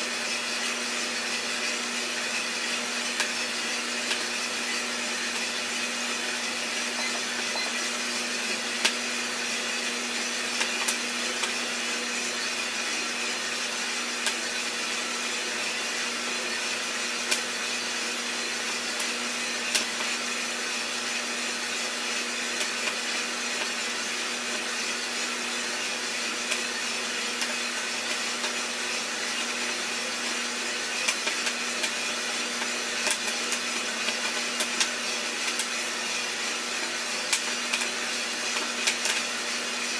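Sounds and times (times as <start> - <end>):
coffee roaster fan rushing: 0.0 - 39.9.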